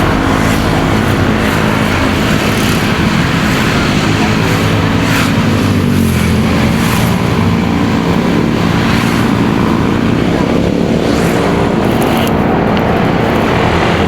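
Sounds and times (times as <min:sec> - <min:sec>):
motorcycle engine running: 0:00.0 - 0:14.0
road traffic noise: 0:00.0 - 0:14.0
wind rush: 0:00.0 - 0:14.0.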